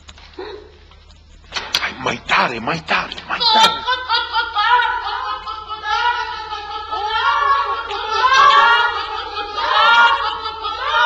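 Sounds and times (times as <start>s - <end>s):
voices singing a melody: 1.9s - 11.0s.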